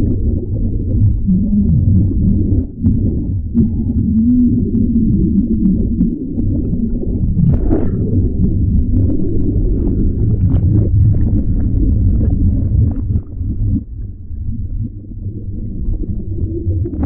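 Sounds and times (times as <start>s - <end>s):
underwater churning water rumble: 0.0s - 17.0s.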